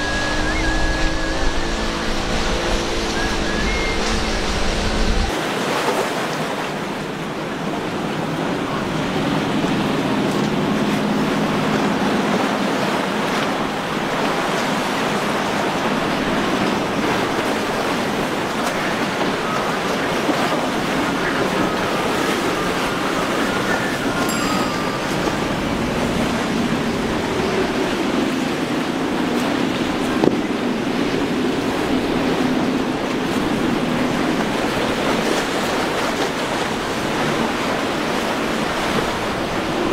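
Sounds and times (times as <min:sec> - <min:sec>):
faint outboard motor: 0:00.0 - 0:39.9
waves breaking: 0:00.0 - 0:39.9.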